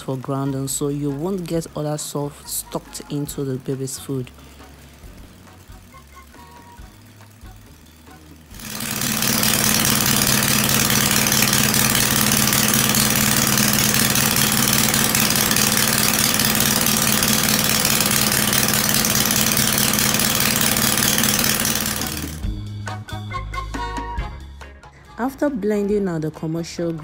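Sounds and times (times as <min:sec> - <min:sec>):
grain mill rushing: 0:00.0 - 0:22.6
petrol engine running: 0:00.0 - 0:23.0.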